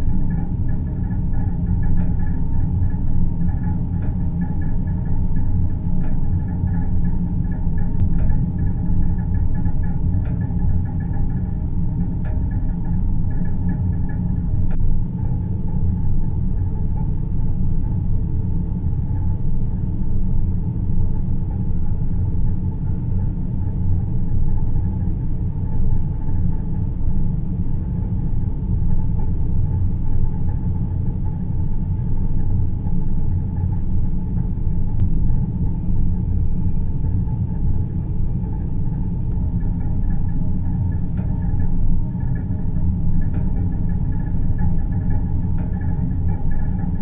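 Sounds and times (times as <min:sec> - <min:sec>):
low rumbling noise drone: 0:00.0 - 0:47.0.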